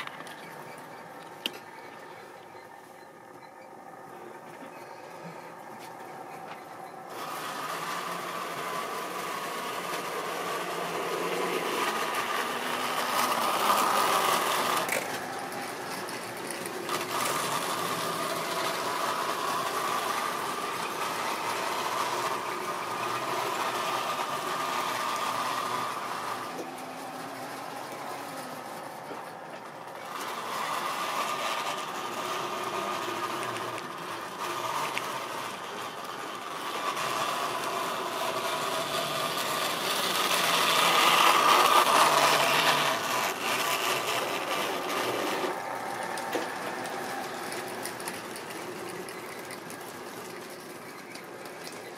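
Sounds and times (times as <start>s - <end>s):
model train motor whining: 0.0s - 51.9s
wagon wheels rattling on track: 0.0s - 51.9s.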